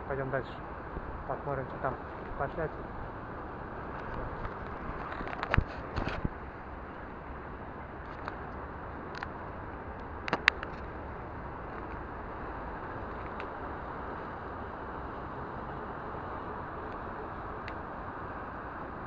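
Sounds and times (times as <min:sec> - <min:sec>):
rushing background noise: 0:00.0 - 0:19.0.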